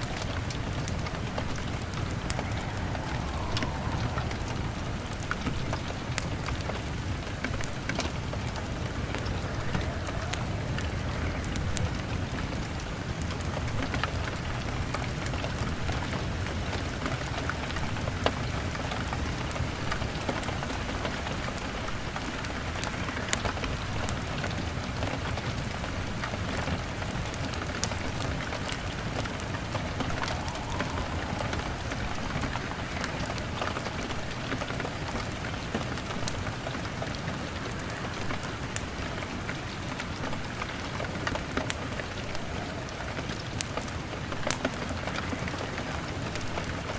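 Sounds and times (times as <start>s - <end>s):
wood fire crackling: 0.0s - 25.2s, 25.8s - 46.9s
rain on a window pane: 0.0s - 46.9s.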